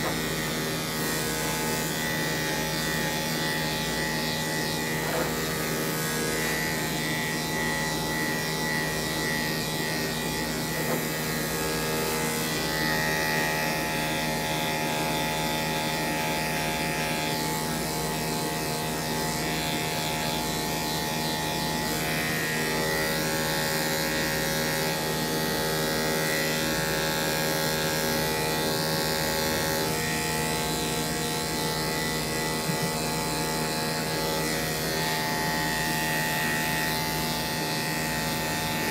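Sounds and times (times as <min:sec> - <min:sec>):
electric clippers running: 0:00.0 - 0:38.9.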